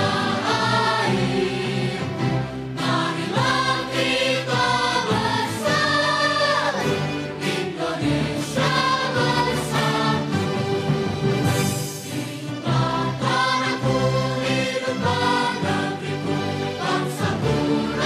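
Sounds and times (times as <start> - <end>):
children's choir singing: 0.0 - 18.0
low musical accompaniment: 0.0 - 18.0.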